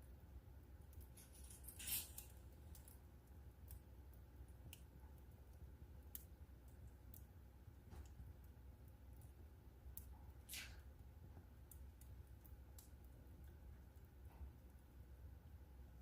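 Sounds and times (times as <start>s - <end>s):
low steady hum: 0.0s - 16.0s
wood fire crackling: 0.0s - 16.0s.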